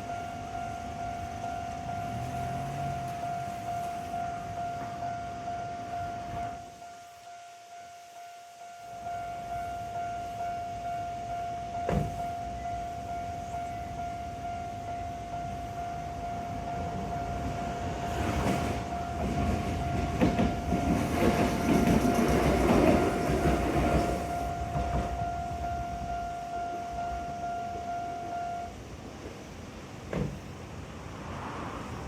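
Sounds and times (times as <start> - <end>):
train rumbling past: 0.0 - 7.8, 8.5 - 32.0
level-crossing bell ringing: 0.0 - 28.8.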